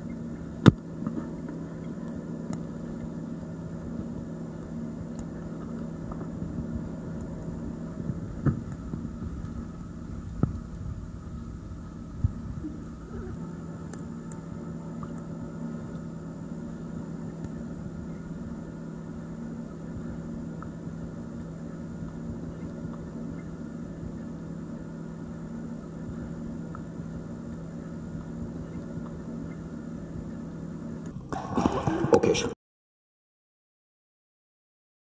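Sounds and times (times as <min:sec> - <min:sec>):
underwater low hum: 0:00.0 - 0:32.5.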